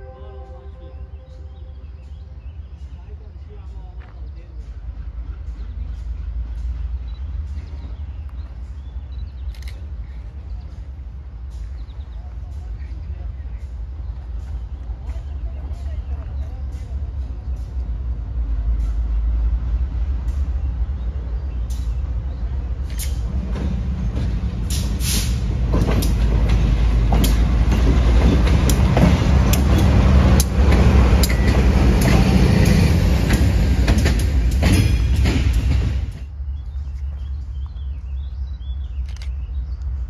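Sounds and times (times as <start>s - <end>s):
diesel locomotive engine rumble: 0.0s - 40.0s
train wheels clicking over rails: 2.0s - 40.0s.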